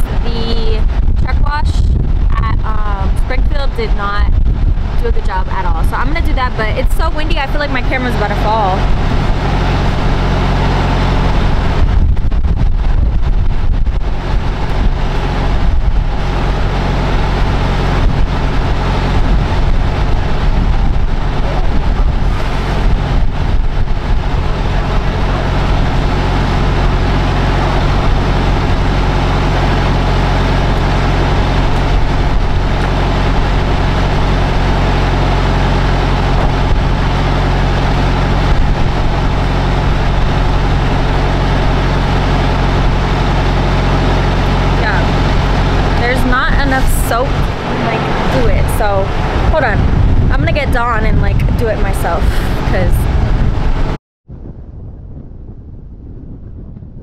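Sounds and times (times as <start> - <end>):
wind gusting across microphone: 0.0 - 57.0
diesel engine idling: 2.2 - 53.0.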